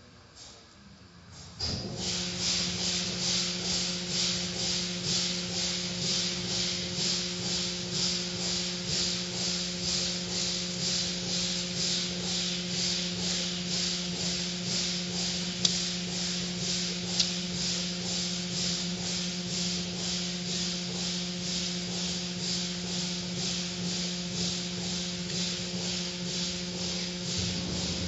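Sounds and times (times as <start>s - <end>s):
machine hum: 1.6s - 28.0s.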